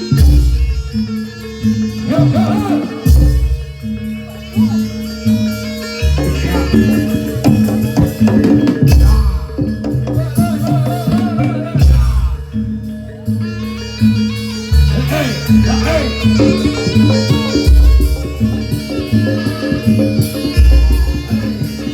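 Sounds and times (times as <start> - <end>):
drums and metal percussion music: 0.0 - 21.9.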